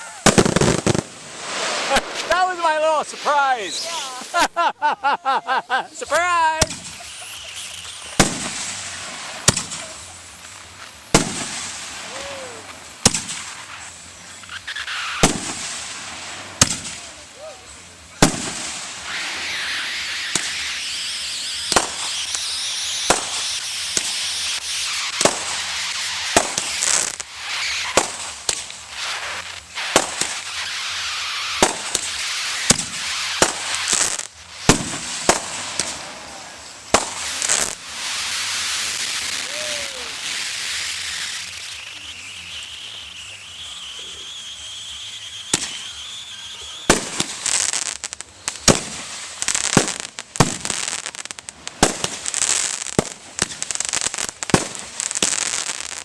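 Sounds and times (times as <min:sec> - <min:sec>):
firework shell bursts: 0:00.0 - 0:04.5, 0:06.0 - 0:17.2, 0:18.2 - 0:56.0
fireworks crackling and hissing: 0:00.0 - 0:56.0.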